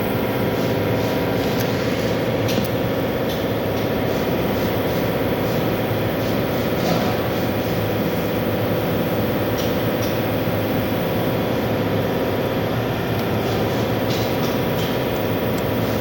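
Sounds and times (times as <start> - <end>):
radiator fan whining: 0.0 - 16.0.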